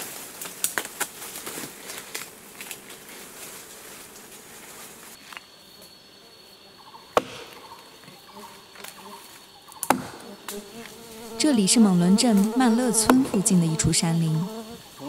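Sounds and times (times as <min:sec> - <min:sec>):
high-pitched insect call: 0:00.1 - 0:15.0
faint buzzing of bees: 0:01.4 - 0:15.0.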